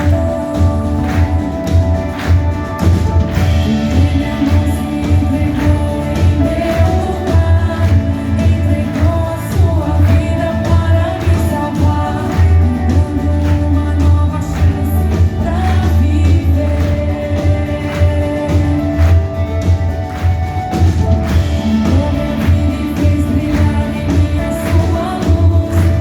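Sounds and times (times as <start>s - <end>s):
band playing worship song: 0.0s - 26.0s
held bass: 0.0s - 26.0s
person singing: 0.0s - 26.0s
steady drum beat: 0.0s - 26.0s.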